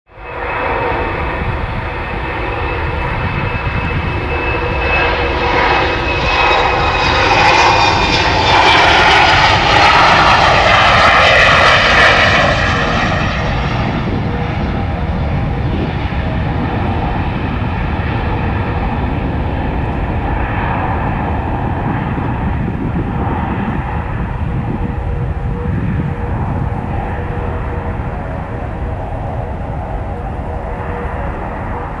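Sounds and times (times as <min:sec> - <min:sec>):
jet engine whine: 0:00.1 - 0:32.0
jet engines roaring: 0:00.1 - 0:32.0.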